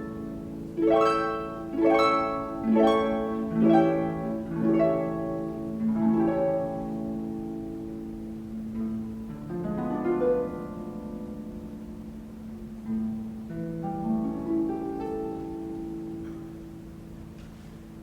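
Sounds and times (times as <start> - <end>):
harp plucking chords: 0.0 - 17.6
orchestral classical music: 0.0 - 18.0.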